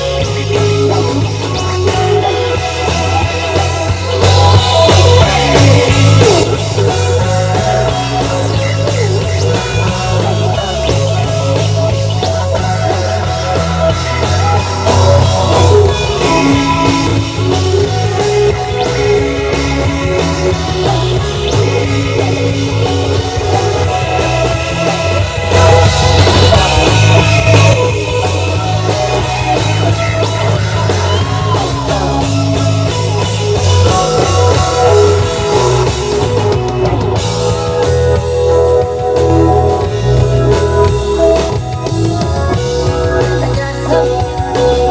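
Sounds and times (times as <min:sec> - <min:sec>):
drum kit: 0:00.0 - 0:44.9
electric guitar: 0:00.0 - 0:44.9
low bass line: 0:00.0 - 0:44.9.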